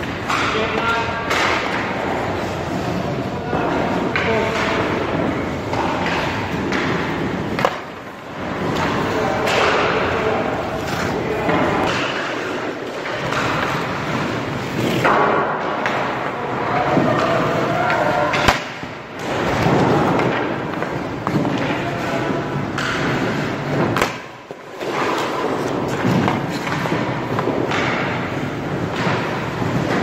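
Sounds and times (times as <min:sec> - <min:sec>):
stick hitting puck: 0:00.0 - 0:02.2, 0:03.5 - 0:30.0.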